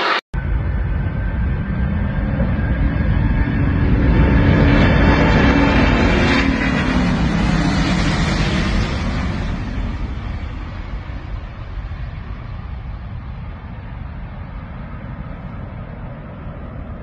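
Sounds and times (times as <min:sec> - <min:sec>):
jet airliner rumble: 0:00.0 - 0:17.0.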